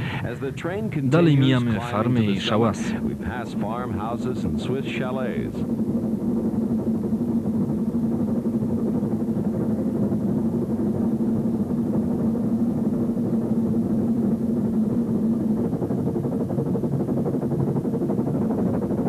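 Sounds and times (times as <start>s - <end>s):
train mechanical drone: 0.0s - 19.0s.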